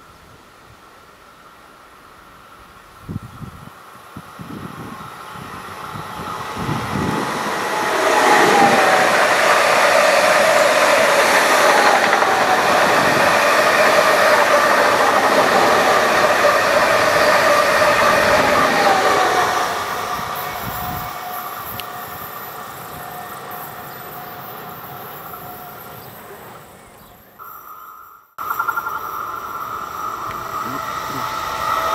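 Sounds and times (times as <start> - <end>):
train whine: 0.0 - 31.9
train wheels on rails: 3.8 - 27.4, 28.4 - 31.9.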